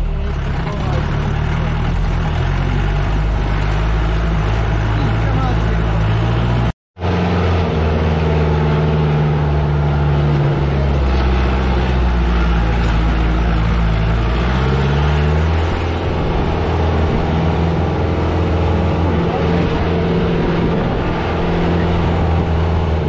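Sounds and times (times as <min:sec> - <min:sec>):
car engine under load: 0:00.0 - 0:23.0.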